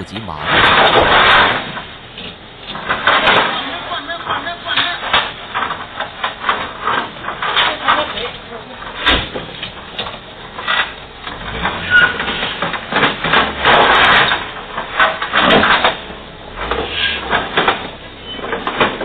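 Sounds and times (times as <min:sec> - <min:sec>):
metal roller shutter rattling: 0:00.8 - 0:19.0.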